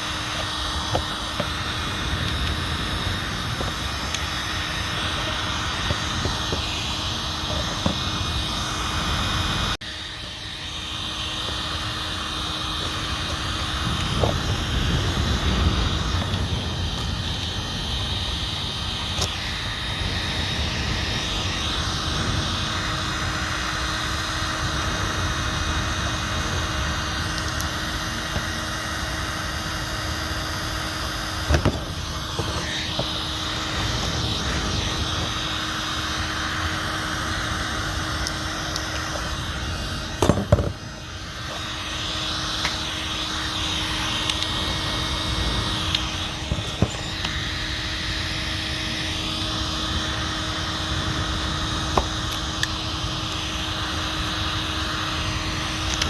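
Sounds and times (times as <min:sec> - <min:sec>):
heat gun blowing: 0:00.0 - 0:56.0.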